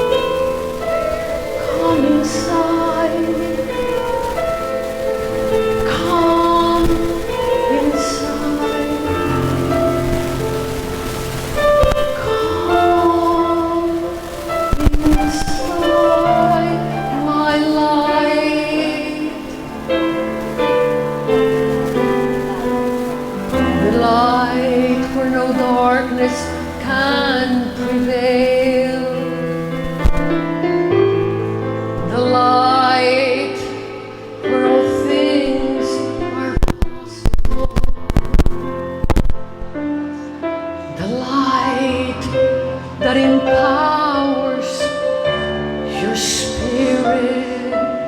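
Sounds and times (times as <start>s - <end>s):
woman singing with vibrato: 0.0s - 30.2s, 32.0s - 37.6s, 40.8s - 48.0s
held keyboard chords: 0.0s - 48.0s.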